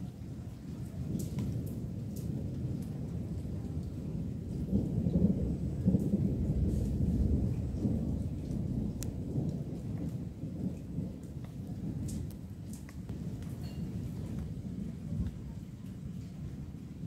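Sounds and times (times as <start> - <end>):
rolling thunder: 0.0 - 17.0
steady rain: 0.0 - 17.0.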